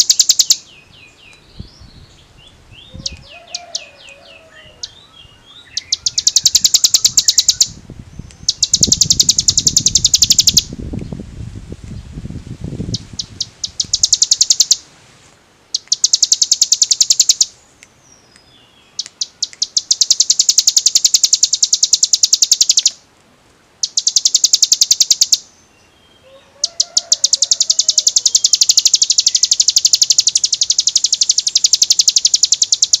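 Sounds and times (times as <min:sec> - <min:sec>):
bird trilling song: 0:00.0 - 0:11.2, 0:12.9 - 0:14.8, 0:15.7 - 0:23.0, 0:23.8 - 0:33.0.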